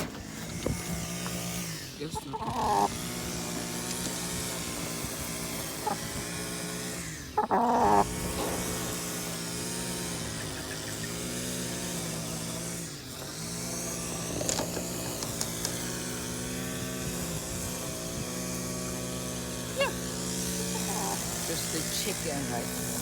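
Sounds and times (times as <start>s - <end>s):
motor running steadily: 0.0s - 23.0s.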